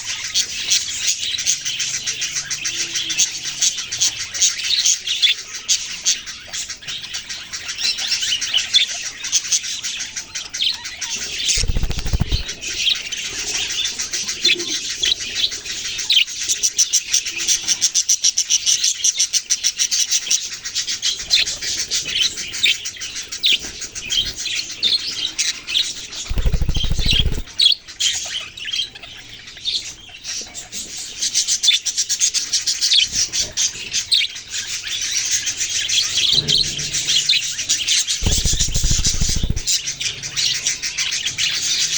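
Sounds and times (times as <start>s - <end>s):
budgerigars chirping: 0.1s - 19.2s, 19.8s - 41.9s.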